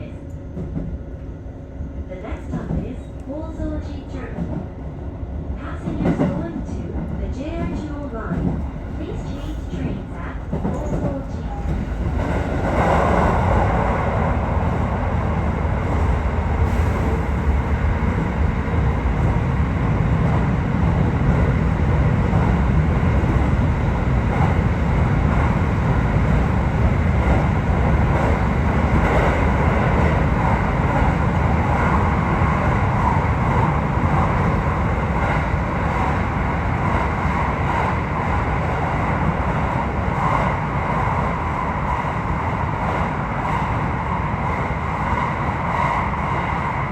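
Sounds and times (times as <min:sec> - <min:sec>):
train wheels rumbling on rail: 0:00.3 - 0:46.9.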